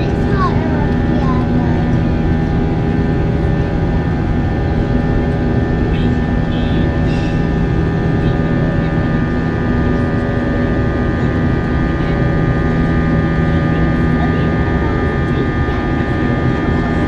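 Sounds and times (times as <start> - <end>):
aircraft cabin engine drone: 0.0 - 17.0.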